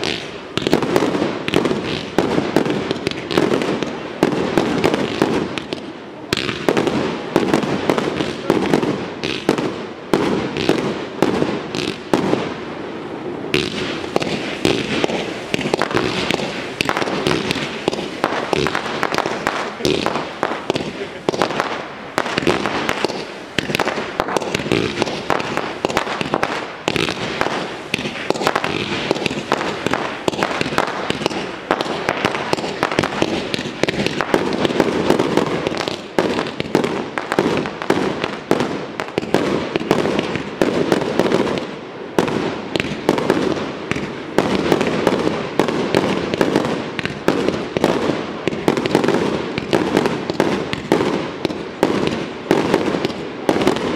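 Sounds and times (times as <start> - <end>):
fireworks bangs and pops: 0.0 - 53.9.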